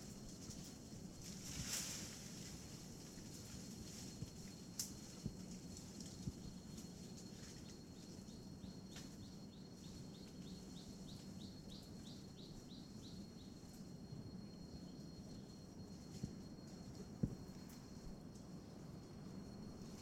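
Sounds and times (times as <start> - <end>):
insect drone: 0.0 - 20.0.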